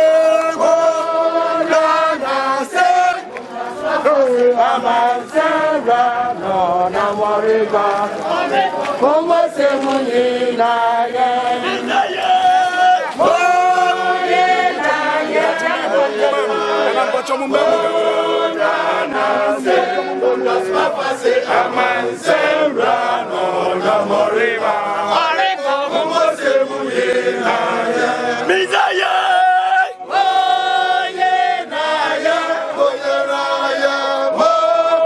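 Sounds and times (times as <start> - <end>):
crowd chanting and singing: 0.0 - 35.0.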